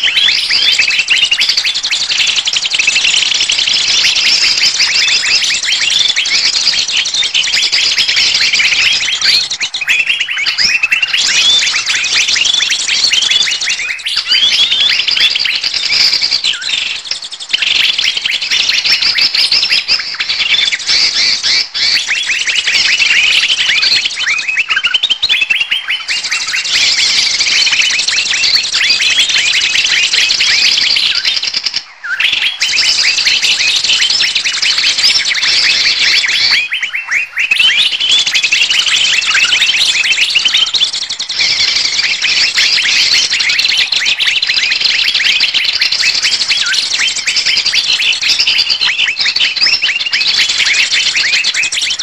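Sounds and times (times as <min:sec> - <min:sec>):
chorus of small birds chirping: 0:00.0 - 0:52.0.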